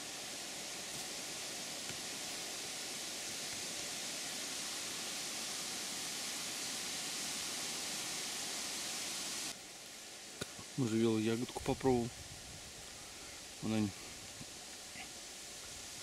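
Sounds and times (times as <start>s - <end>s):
wind rustling leaves: 0.0s - 16.0s.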